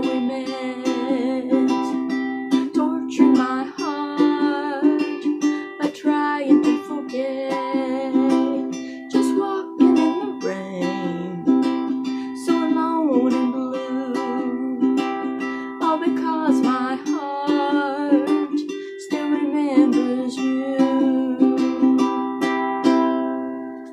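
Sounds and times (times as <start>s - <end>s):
person singing wavering melody: 0.0s - 22.4s
ukulele strumming chords: 0.0s - 23.9s.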